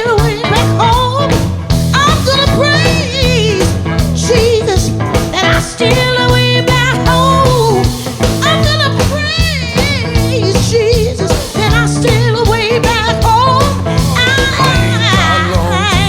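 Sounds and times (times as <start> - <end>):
person singing with vibrato: 0.0 - 1.3, 2.0 - 16.0
drum kit steady beat: 0.0 - 16.0
guitar: 0.0 - 16.0.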